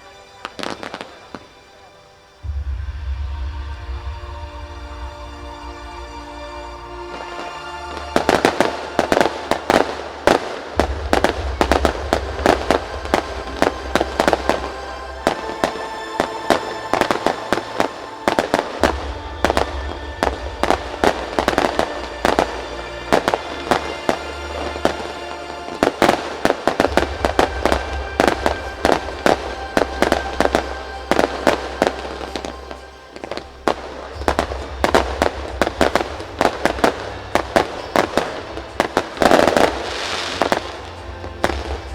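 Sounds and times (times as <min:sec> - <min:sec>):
fireworks bursting: 0:00.4 - 0:41.9
music with deep bass: 0:02.4 - 0:41.9.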